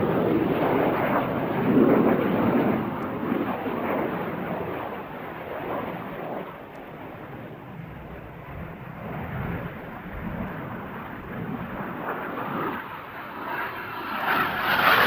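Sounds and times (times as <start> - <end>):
distant jet rumble: 0.0 - 15.0.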